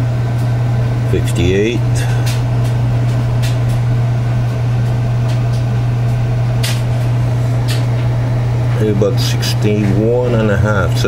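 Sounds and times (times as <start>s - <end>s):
loud low hum: 0.0s - 11.0s.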